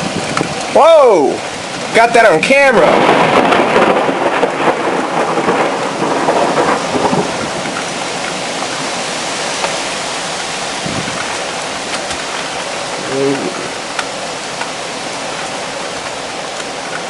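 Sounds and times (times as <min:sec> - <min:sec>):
heavy rain pouring: 0:00.0 - 0:17.0
thunder rumbling: 0:00.0 - 0:17.0.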